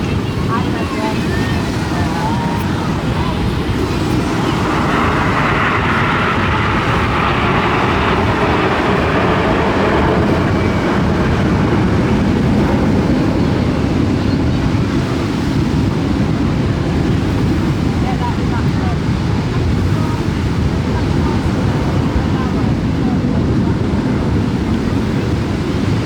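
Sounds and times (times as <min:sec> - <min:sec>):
aircraft engine rushing: 0:00.0 - 0:26.0
wind buffeting microphone: 0:00.0 - 0:26.0.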